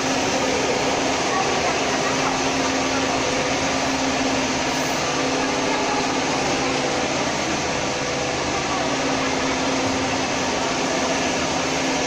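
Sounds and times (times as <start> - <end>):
frying machine hissing and humming: 0.0 - 12.0.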